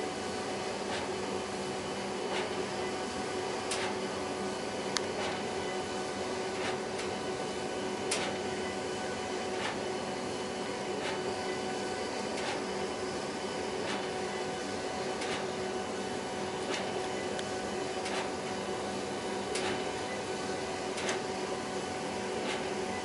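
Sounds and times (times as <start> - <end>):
printer whirring hum: 0.0 - 23.0.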